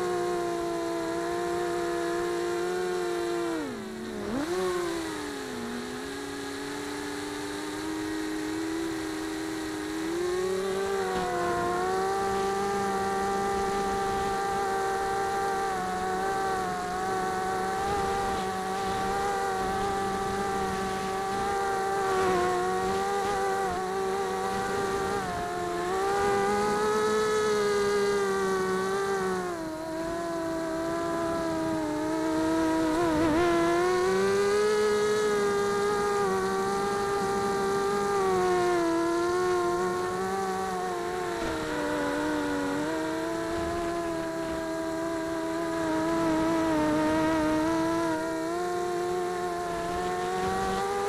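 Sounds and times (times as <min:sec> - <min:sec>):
quadcopter motors buzzing whine: 0:00.0 - 0:51.0.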